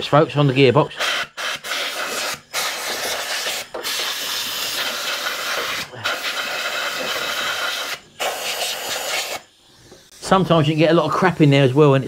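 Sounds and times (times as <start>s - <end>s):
air blow gun hissing: 0.4s - 12.0s.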